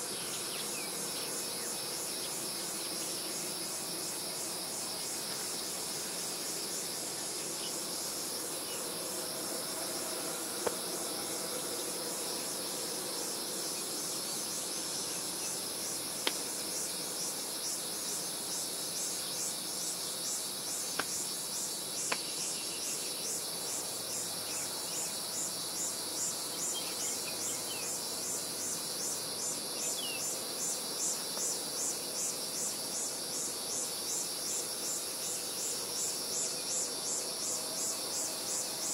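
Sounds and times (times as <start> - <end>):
insects chirring: 0.0 - 38.9
pulsing insect chirp: 0.0 - 38.9.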